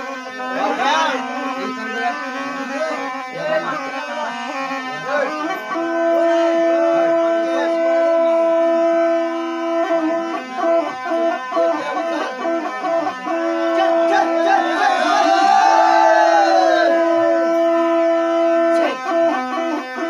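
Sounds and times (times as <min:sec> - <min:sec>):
wind instrument folk music: 0:00.0 - 0:20.0.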